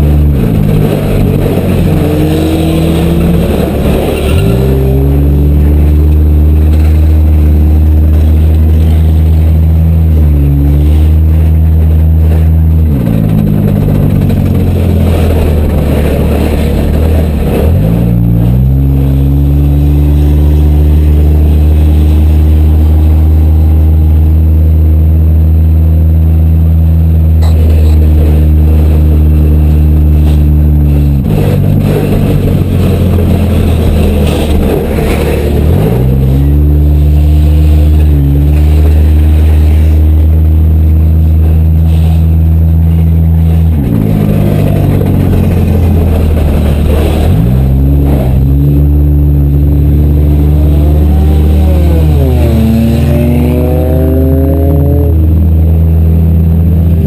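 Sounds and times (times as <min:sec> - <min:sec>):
car engine revving loudly: 0:00.0 - 0:57.0.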